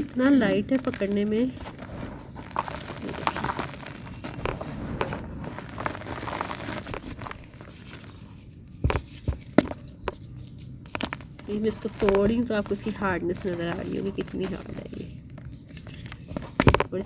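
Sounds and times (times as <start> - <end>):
dry dirt crumbling: 0.0 - 17.0.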